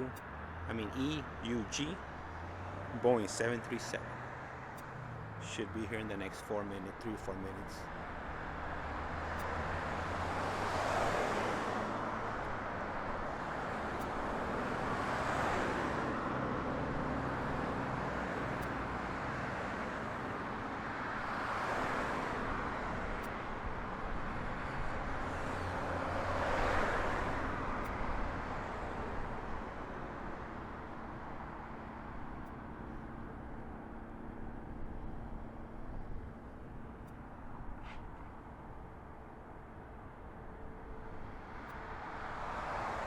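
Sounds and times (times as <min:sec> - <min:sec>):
steady traffic hum: 0:00.0 - 0:43.0
vehicles passing: 0:00.0 - 0:43.0.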